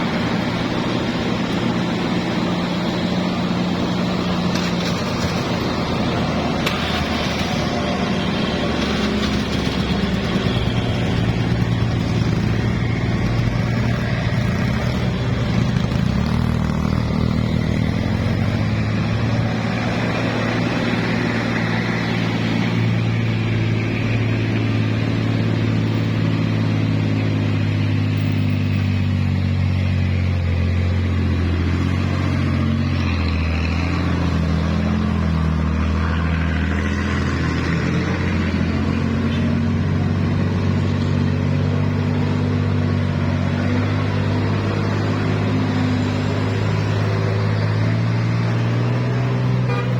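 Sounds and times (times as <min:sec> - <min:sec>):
vehicle engine running: 0:00.0 - 0:49.9.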